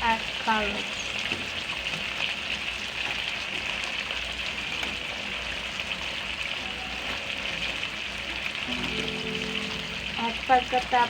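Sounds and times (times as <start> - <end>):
sauce sizzling in a pot: 0.0 - 11.0.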